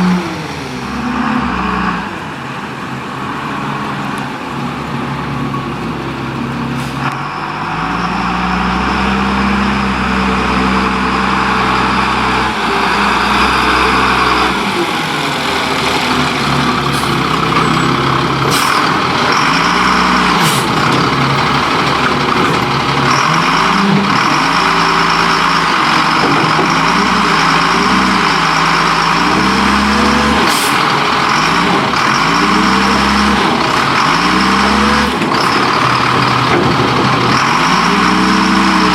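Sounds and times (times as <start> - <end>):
garbage truck engine revving: 0.0 - 38.9.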